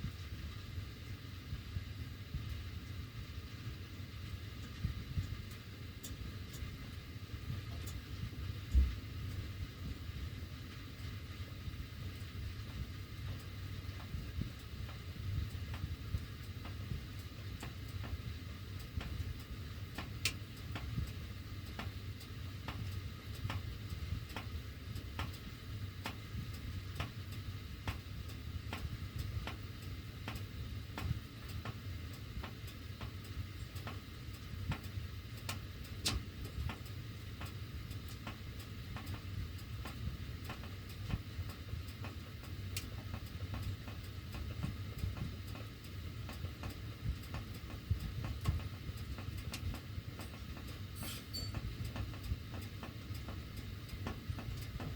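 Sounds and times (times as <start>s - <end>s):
heating ductwork ticking: 0.0s - 54.9s
low rumble of running air: 0.0s - 54.9s.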